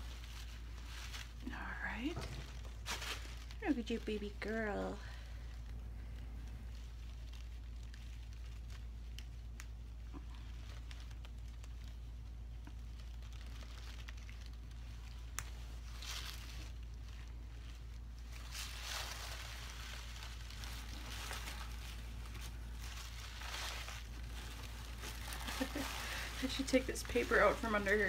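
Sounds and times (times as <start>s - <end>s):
low hum: 0.0s - 28.0s
tissue paper crinkling: 0.0s - 28.0s.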